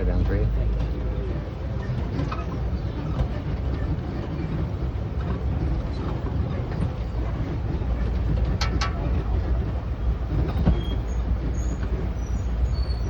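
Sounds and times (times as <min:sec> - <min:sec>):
vehicle driving low rumble: 0:00.0 - 0:13.0
light rattling: 0:01.9 - 0:13.0.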